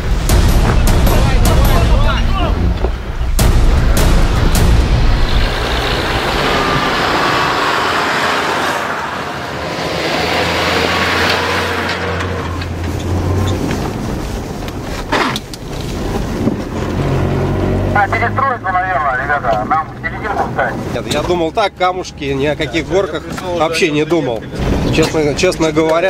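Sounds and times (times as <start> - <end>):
off-road vehicle engine driving: 0.0 - 26.0.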